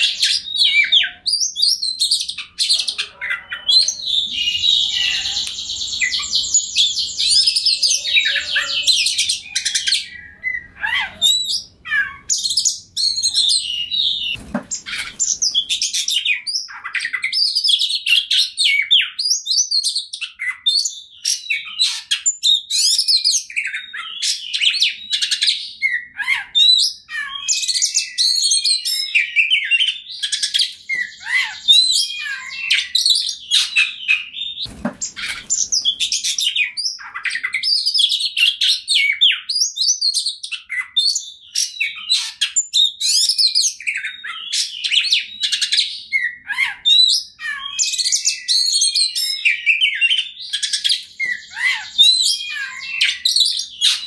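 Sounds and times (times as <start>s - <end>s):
bird singing: 0.0s - 54.0s.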